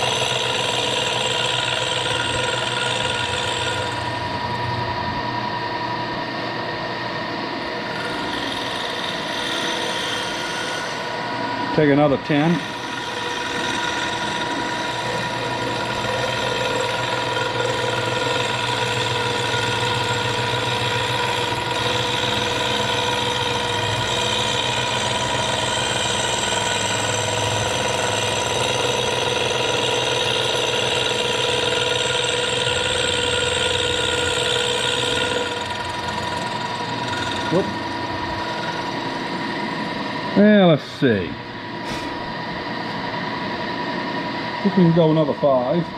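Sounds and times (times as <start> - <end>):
rough chatter of metal cutting: 0.0 - 4.8, 7.6 - 42.4
milling machine spindle whine: 0.0 - 45.9.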